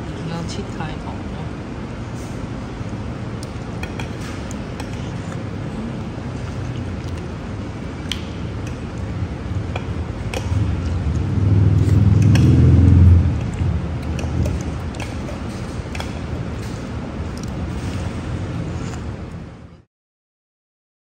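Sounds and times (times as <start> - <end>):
low rumble of eatery: 0.0 - 19.9.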